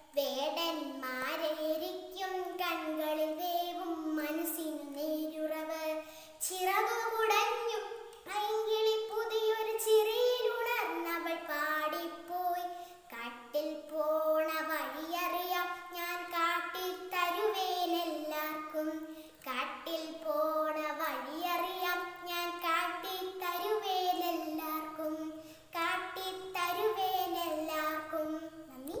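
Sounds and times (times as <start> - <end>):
girl singing unaccompanied: 0.0 - 29.0.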